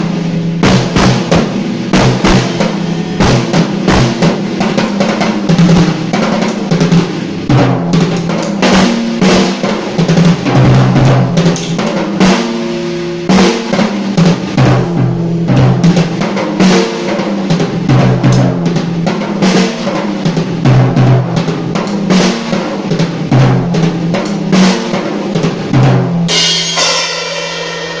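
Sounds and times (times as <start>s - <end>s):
cymbal crash ringing: 0.0s - 20.6s, 21.7s - 28.0s
drum kit playing: 0.0s - 28.0s.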